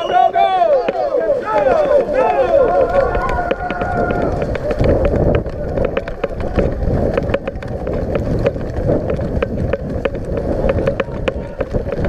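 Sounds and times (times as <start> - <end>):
running footsteps on grass: 0.0 - 12.0
gear and rifle rattling: 0.8 - 12.0
wind rumbling on microphone: 0.8 - 12.0.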